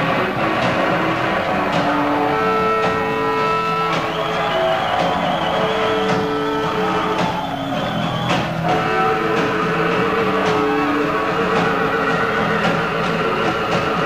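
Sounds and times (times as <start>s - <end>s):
droning electric guitars: 0.0s - 14.0s
drum hits: 0.0s - 14.0s.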